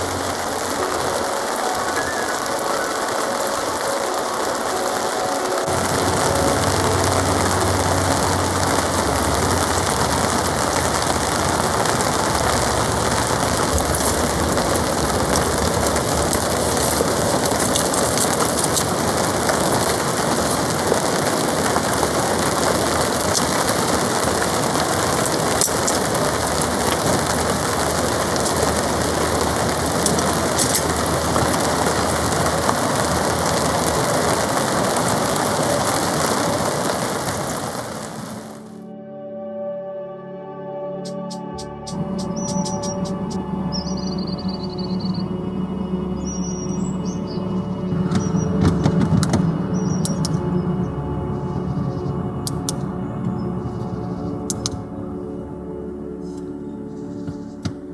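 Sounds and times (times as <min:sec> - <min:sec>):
heavy rain on a tarp: 0:00.0 - 0:38.8, 0:41.9 - 0:55.0.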